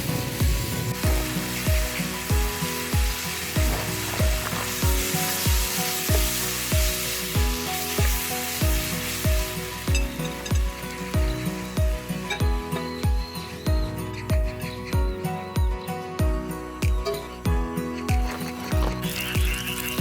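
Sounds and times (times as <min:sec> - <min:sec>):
music with drum beat: 0:00.0 - 0:20.0
steak sizzling on grill: 0:00.0 - 0:20.0.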